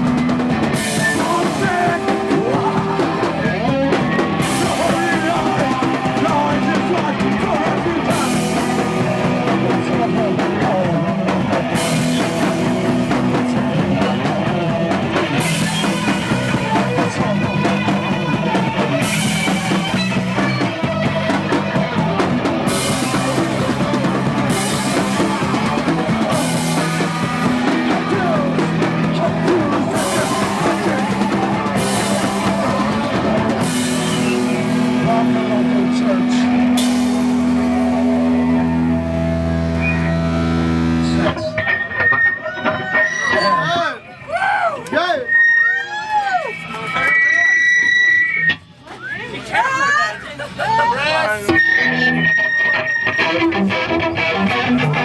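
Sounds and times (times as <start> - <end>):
drum kit: 0.0 - 43.6, 51.5 - 55.0
bass: 0.0 - 55.0
guitar: 0.0 - 55.0.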